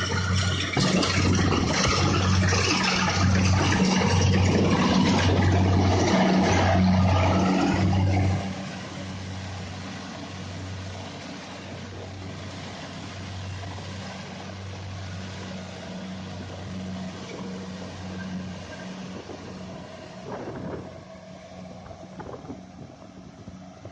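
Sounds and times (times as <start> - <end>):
engine humming steadily: 0.0 - 23.9.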